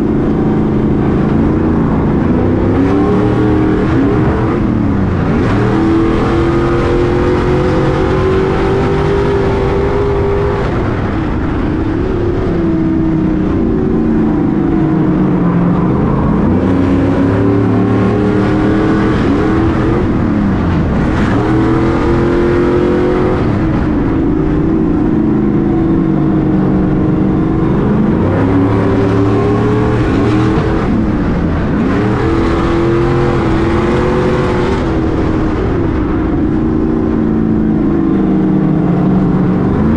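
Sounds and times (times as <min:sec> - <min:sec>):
racing truck engine accelerating: 0:00.0 - 0:39.9.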